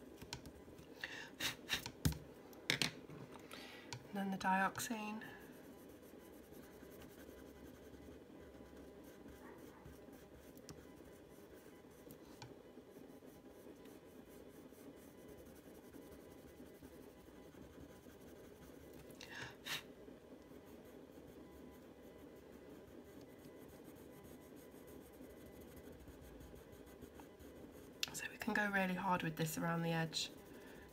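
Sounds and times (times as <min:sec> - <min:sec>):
coloured pencil scratching on paper: 0:04.4 - 0:30.9.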